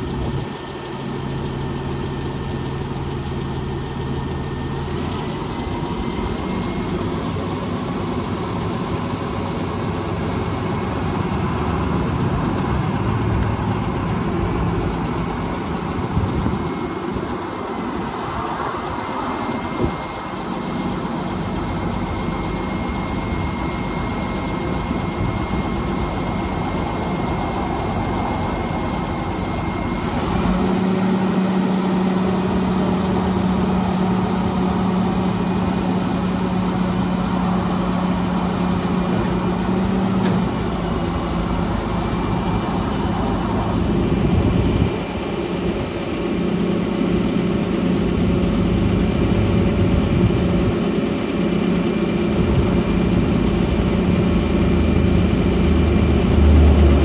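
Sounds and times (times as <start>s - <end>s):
diesel truck engine humming: 0.0s - 57.0s.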